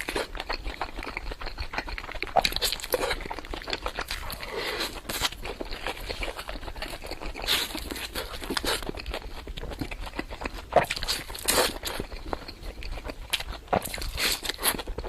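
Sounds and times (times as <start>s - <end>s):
person chewing and crunching: 0.0s - 15.0s.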